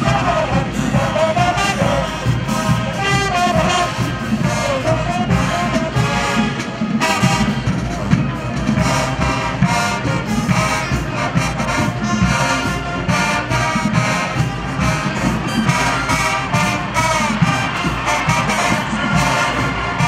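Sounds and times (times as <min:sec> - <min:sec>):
brass and saxophones: 0:00.0 - 0:20.0
steady drum beat: 0:00.0 - 0:20.0.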